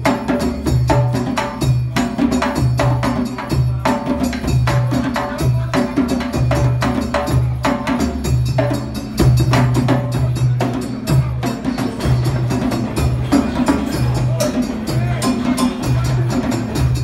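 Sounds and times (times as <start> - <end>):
hand drums playing: 0.0 - 17.0.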